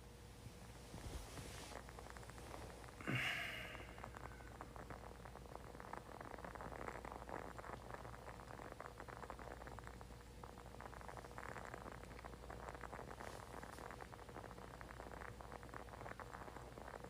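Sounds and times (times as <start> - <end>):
faint candle crackling: 0.0 - 17.0.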